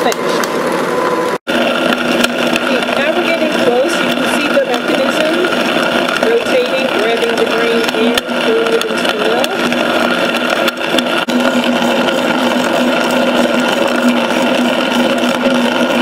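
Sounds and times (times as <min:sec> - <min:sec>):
mixer motor running grain mill: 0:00.0 - 0:16.0.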